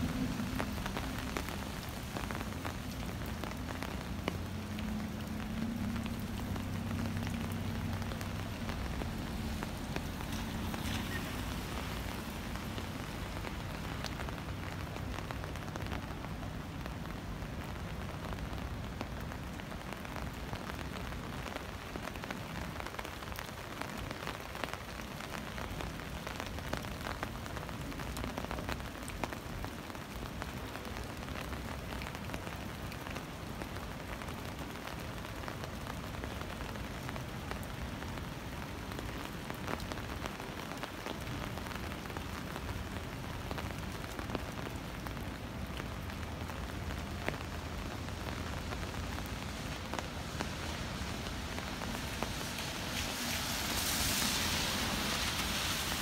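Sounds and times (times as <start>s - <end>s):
rain falling on wet street: 0.0s - 56.0s
raindrop ticks: 0.0s - 56.0s.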